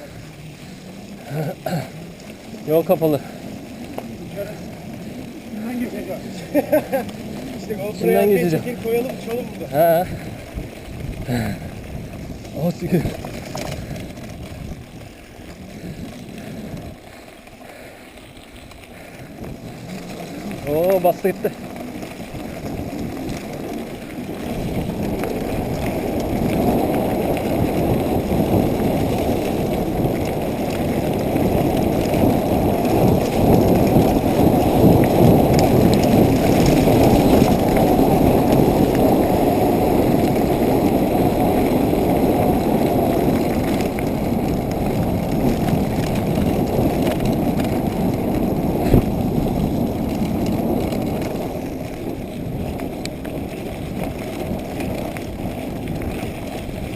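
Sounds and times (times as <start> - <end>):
wind rumbling on microphone: 0.0 - 56.9.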